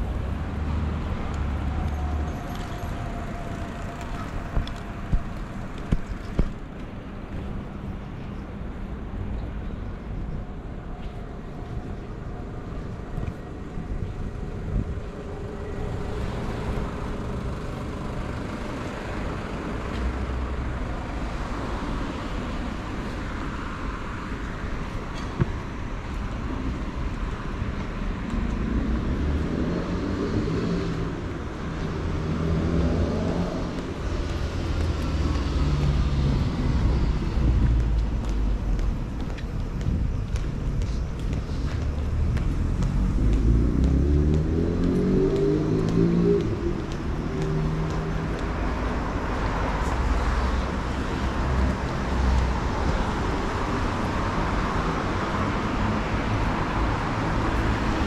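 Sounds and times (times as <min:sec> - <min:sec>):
cars passing: 0:00.0 - 0:09.3, 0:10.6 - 0:58.0.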